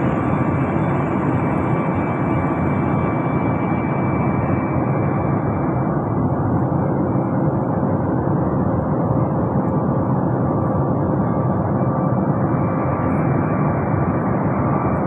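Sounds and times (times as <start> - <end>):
airliner cabin engine rush: 0.0 - 15.0
faint steady whine: 0.0 - 15.0.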